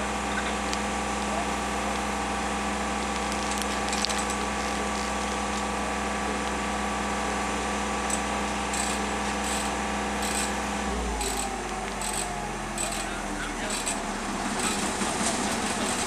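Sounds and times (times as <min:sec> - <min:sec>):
machine engine idling: 0:00.0 - 0:16.0.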